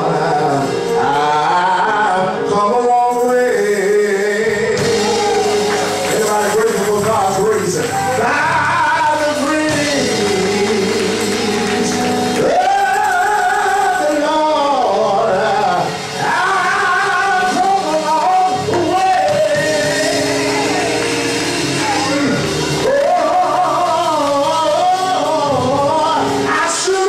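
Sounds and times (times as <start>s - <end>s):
electric keyboard: 0.0s - 27.0s
man singing gospel: 0.0s - 27.0s.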